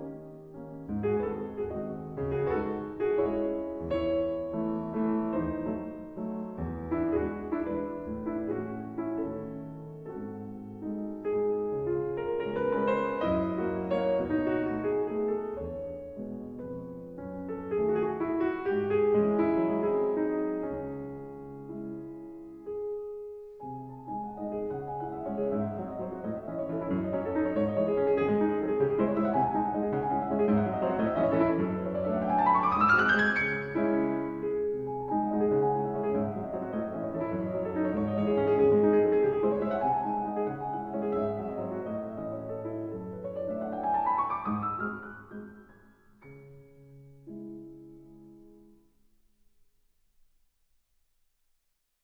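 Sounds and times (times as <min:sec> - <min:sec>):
piano music: 0:00.0 - 0:48.9.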